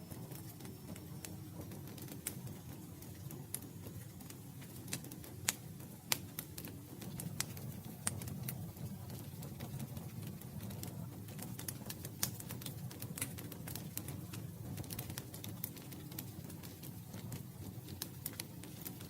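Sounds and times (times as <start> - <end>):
low rumble of flames: 0.0 - 19.0
burning wood popping and snapping: 1.6 - 19.0.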